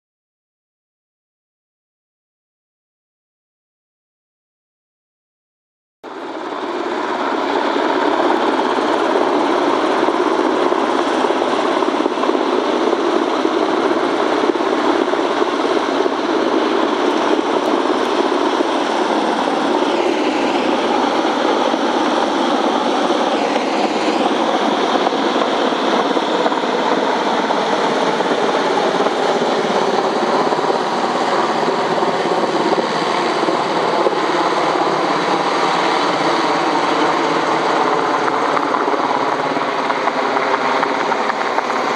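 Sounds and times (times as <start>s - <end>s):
helicopter rotor and engines: 6.0s - 41.9s.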